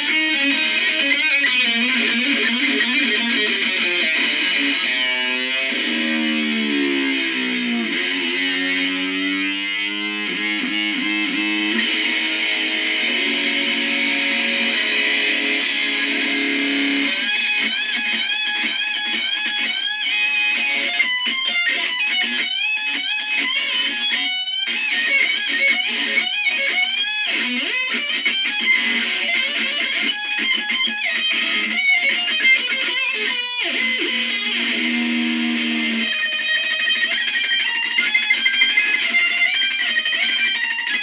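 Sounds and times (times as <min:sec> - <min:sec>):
distorted electric guitar bending notes: 0:00.0 - 0:41.0.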